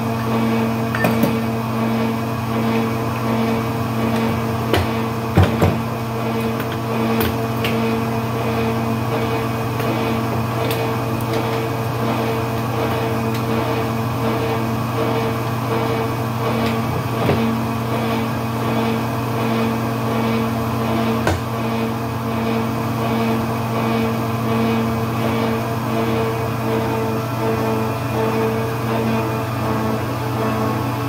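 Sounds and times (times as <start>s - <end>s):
pipe threading machine humming: 0.0s - 31.0s.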